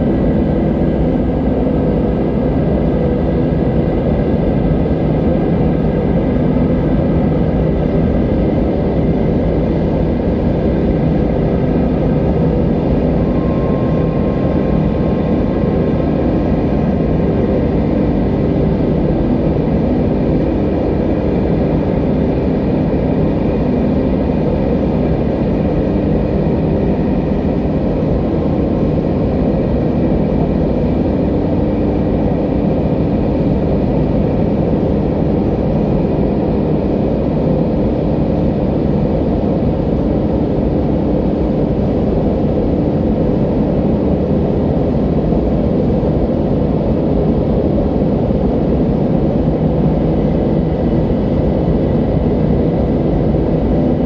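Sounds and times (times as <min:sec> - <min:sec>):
ambient music drone: 0:00.0 - 0:54.0.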